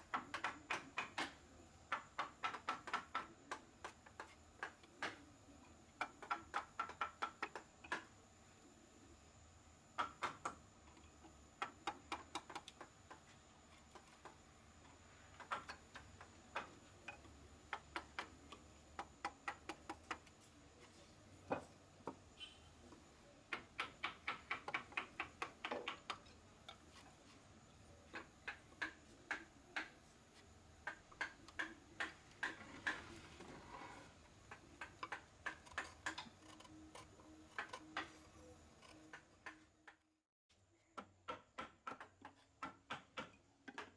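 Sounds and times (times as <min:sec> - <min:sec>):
mallet tapping wood chisel: 0:00.0 - 0:08.2, 0:10.0 - 0:20.4, 0:23.5 - 0:27.4, 0:28.1 - 0:30.0, 0:30.8 - 0:33.4, 0:34.4 - 0:40.0, 0:41.0 - 0:43.9.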